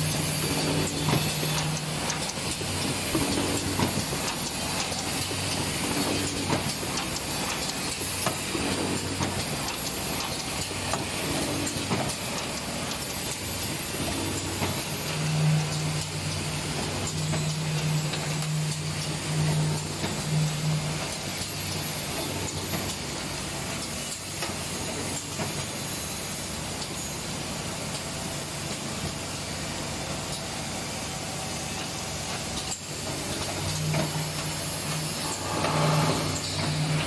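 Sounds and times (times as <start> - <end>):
machine hiss and rattle: 0.0 - 37.0.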